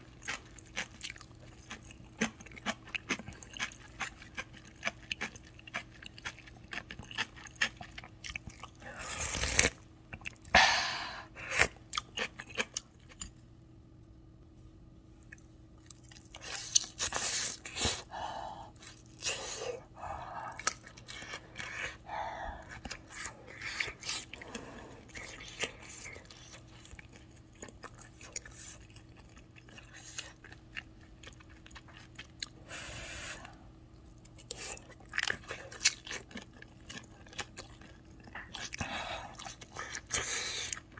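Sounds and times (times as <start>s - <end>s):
chewing and soft crunching: 0.0s - 10.5s, 11.7s - 13.7s, 14.6s - 40.9s.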